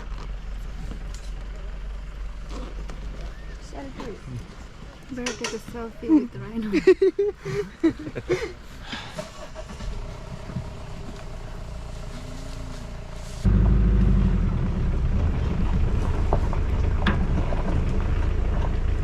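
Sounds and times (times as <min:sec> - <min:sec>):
jeep engine rumbling: 0:00.0 - 0:19.0.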